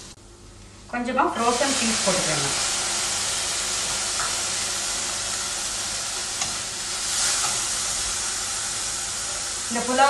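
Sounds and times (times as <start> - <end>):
vegetables sizzling in oil: 1.2 - 10.0.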